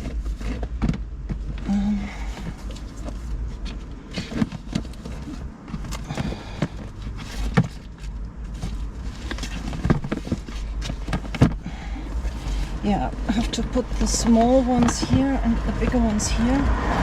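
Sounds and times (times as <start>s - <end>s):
notebooks and bags being handled: 0.0s - 16.8s
steady low hum: 0.0s - 17.0s.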